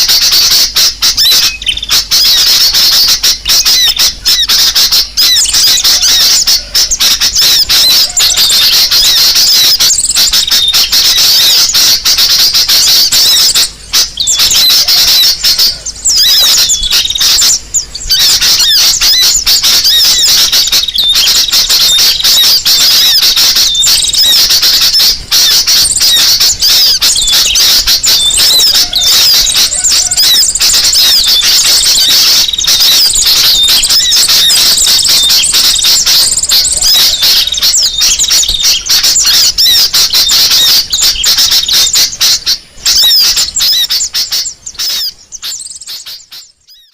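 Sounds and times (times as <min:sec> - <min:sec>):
rapid high-pitched bird chirping: 0:00.0 - 0:46.9.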